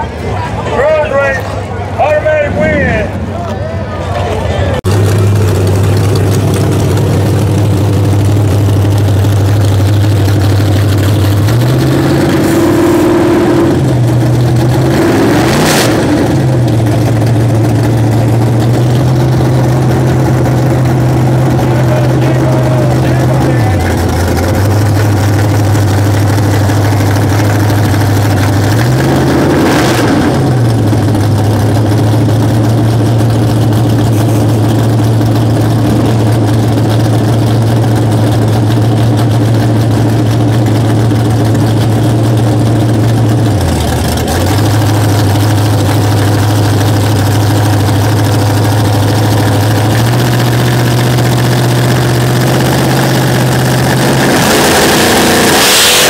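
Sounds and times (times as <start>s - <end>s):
drag car engine idling loudly: 0.0s - 56.0s.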